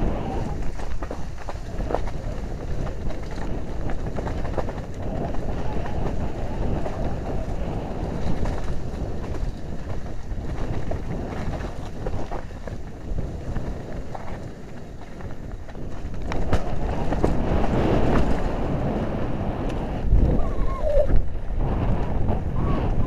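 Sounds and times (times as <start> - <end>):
bike rattling over bumps: 0.0 - 23.0
bike tyres rumbling over dirt: 0.0 - 23.0
wind buffeting microphone: 0.0 - 23.0.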